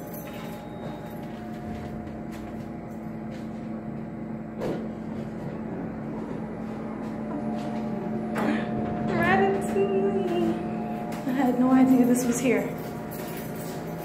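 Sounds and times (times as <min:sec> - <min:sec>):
elevator humming: 0:00.0 - 0:14.0
elevator stopping knock: 0:00.0 - 0:14.0.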